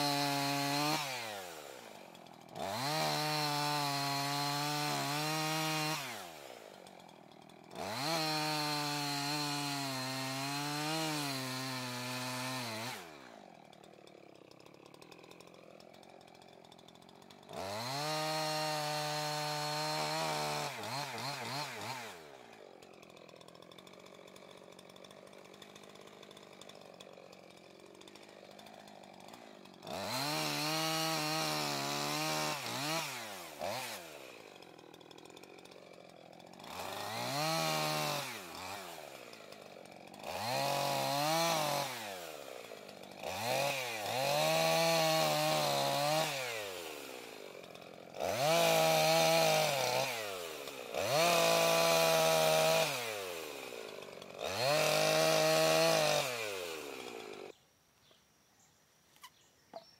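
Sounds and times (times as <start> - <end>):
chainsaw idling and revving: 0.0 - 57.6.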